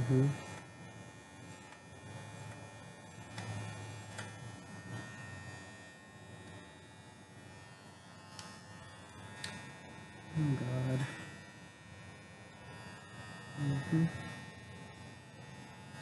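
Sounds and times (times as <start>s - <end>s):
electric pet hair trimmer buzzing: 0.0s - 16.0s.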